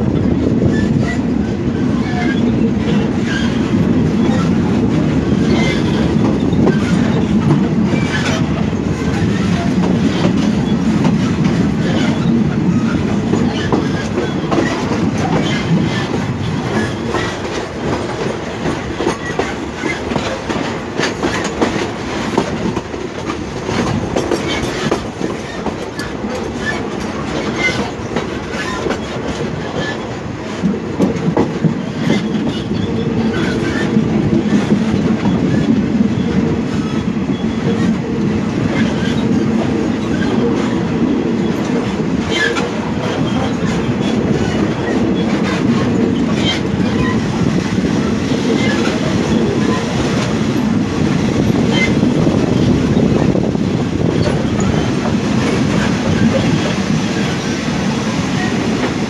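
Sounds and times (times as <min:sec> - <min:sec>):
train wheels rumbling and clicking: 0:00.0 - 0:59.0.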